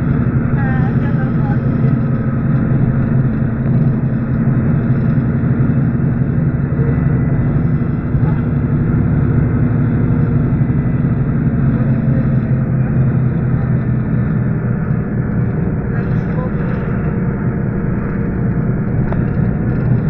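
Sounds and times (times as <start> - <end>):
bus engine hum: 0.0 - 20.0
road and tyre noise: 0.0 - 20.0.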